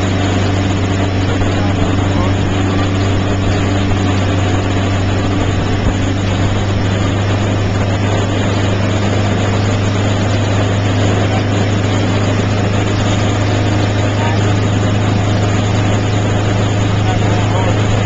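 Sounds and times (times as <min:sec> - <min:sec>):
boat wake churning: 0:00.0 - 0:18.0
motorboat engine droning: 0:00.0 - 0:18.0.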